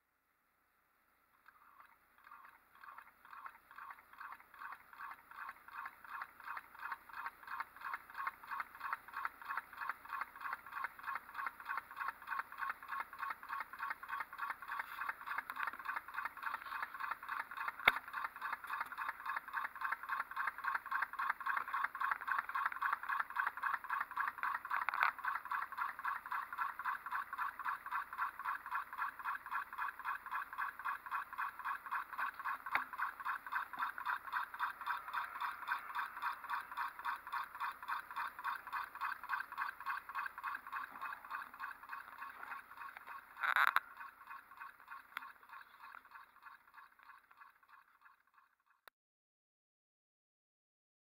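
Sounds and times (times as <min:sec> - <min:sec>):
solenoid engine clacking: 0:01.4 - 0:48.3.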